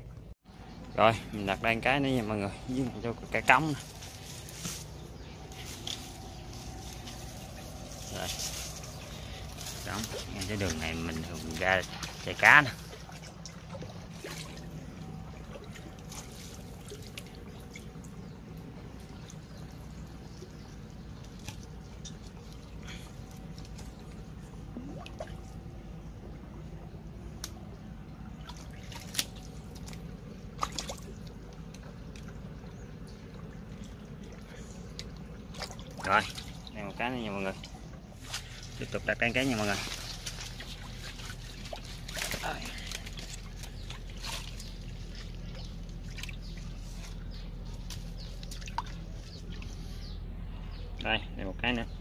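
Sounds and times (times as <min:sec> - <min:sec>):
low steady rumble: 0:00.0 - 0:52.0
water dripping and trickling: 0:03.3 - 0:25.7, 0:27.0 - 0:50.0.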